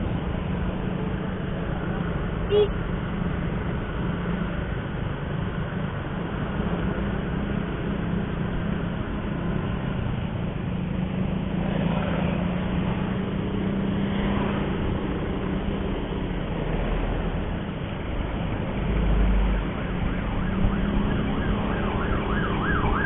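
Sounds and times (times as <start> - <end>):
faint passing traffic: 0.0 - 23.0
vehicle engine hum and road noise: 0.0 - 23.0.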